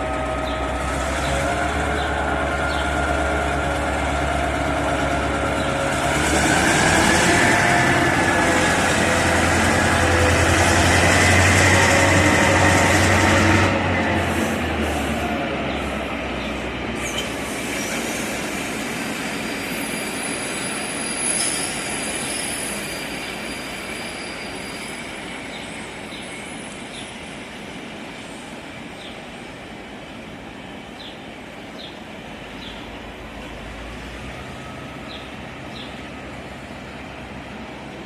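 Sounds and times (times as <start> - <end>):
diesel locomotive engine running: 0.0 - 38.0.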